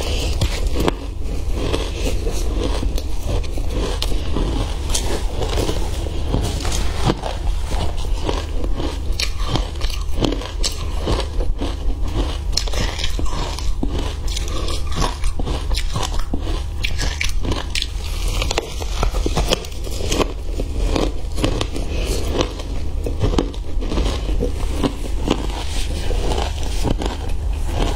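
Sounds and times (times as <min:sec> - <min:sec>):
ice being chewed: 0:00.0 - 0:27.9.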